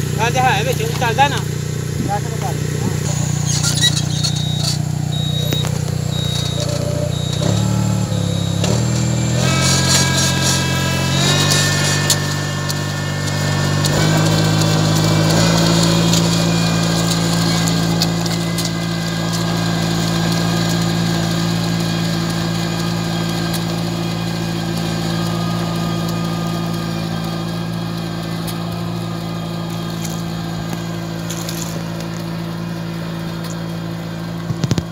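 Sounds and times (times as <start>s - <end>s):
machine engine running: 0.0s - 34.9s.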